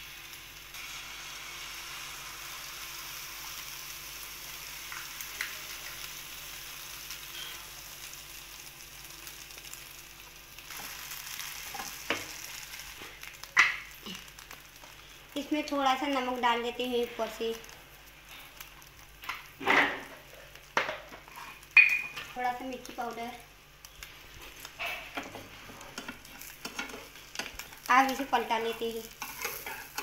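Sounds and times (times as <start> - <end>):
egg sizzling in frying pan: 0.0 - 30.0.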